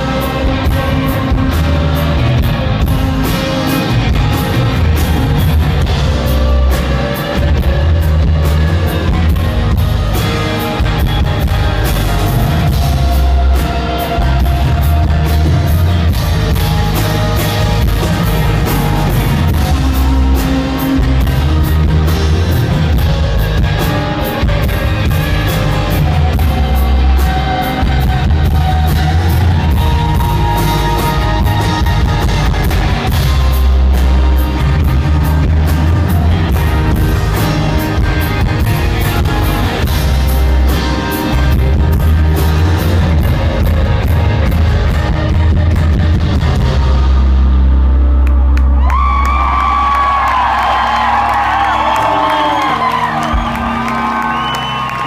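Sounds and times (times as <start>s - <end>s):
guitar: 0.0s - 55.0s
live band playing: 0.0s - 55.0s.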